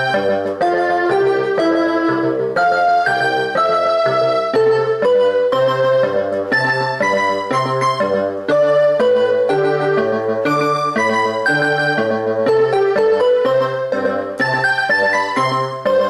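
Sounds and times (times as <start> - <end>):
keyboard melody: 0.0 - 16.0
stepping bass line: 0.0 - 16.0.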